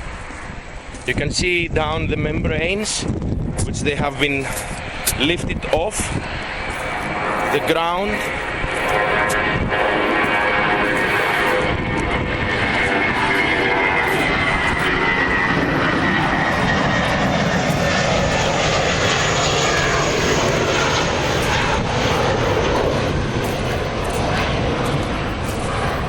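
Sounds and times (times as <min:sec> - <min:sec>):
airliner engines taking off: 0:00.0 - 0:26.0.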